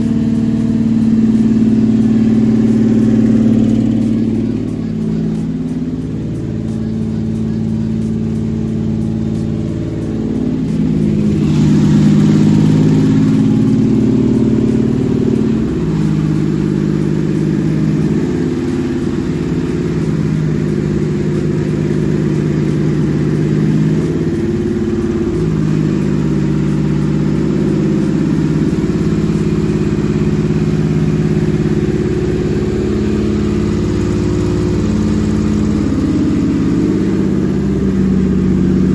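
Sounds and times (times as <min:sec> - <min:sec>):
petrol engine idling: 0:00.0 - 0:38.9.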